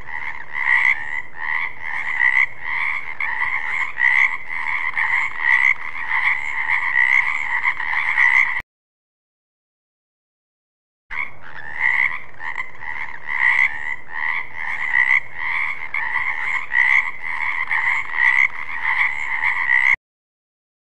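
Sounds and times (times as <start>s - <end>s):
frogs croaking in chorus: 0.0s - 8.6s, 11.1s - 20.0s.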